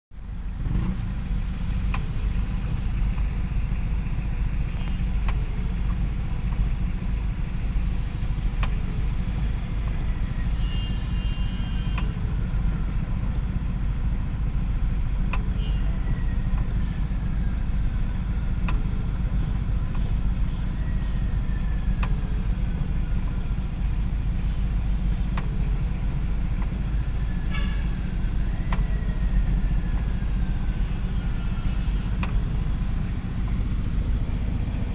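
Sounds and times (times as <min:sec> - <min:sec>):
vehicle rumbling: 0:00.0 - 0:34.9.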